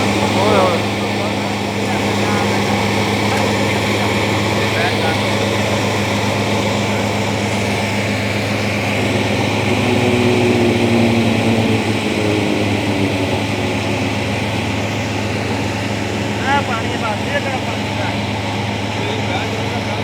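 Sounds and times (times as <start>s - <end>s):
diesel engine humming: 0.0s - 20.0s
faint whine: 0.0s - 20.0s.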